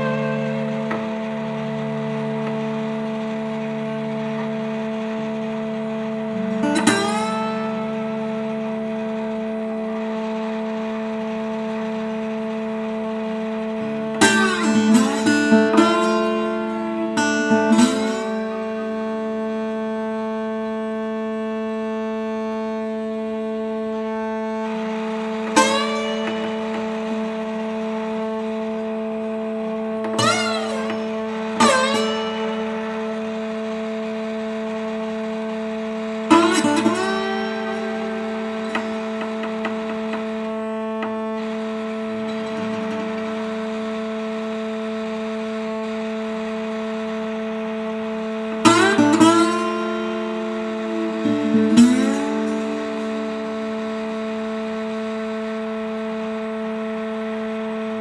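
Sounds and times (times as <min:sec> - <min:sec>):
plucked guitar notes bending: 0:00.0 - 0:21.5, 0:22.3 - 0:44.2, 0:48.2 - 0:55.7
ambient drone of held tones: 0:00.0 - 0:58.0.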